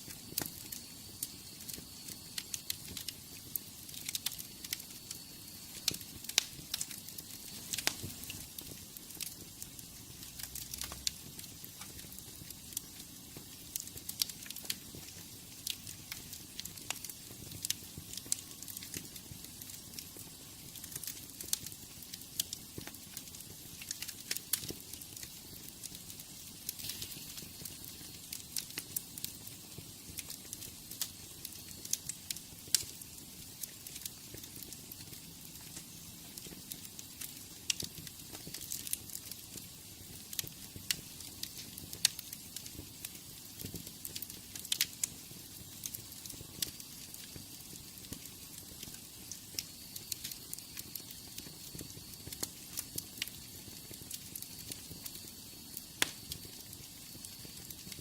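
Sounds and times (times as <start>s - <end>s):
fire hissing: 0.0s - 58.0s
wood fire crackling and popping: 0.0s - 58.0s.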